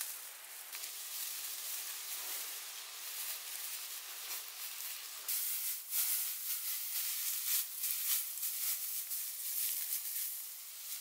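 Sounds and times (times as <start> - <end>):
dry straw rustling and crackling: 0.0 - 11.0.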